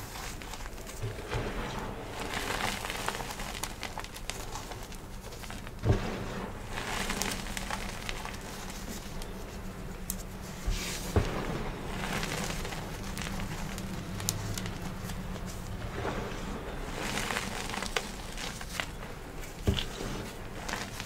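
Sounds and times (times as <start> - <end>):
hands crunching powdery chalk: 0.0 - 21.0.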